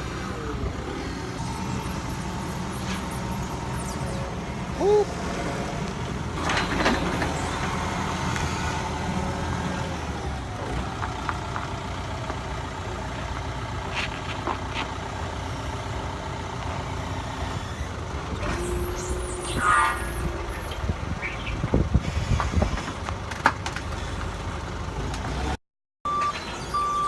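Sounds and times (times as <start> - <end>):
truck engine rumbling: 0.0 - 27.0.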